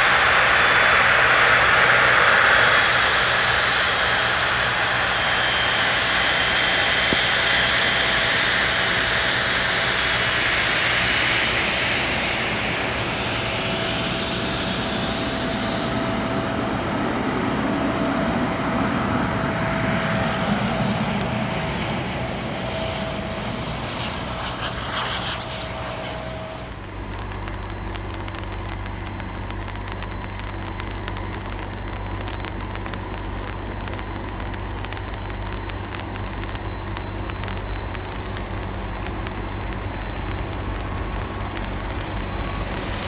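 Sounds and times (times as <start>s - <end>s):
jet engines at takeoff thrust: 0.0s - 43.0s.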